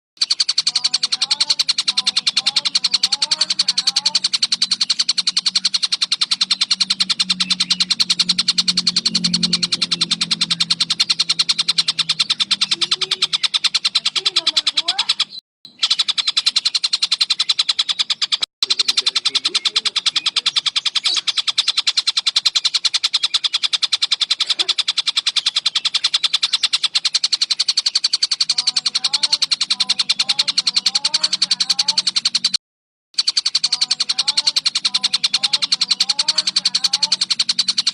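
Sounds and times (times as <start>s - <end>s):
kingfisher high-pitched chatter: 0.2s - 32.6s, 33.2s - 37.9s.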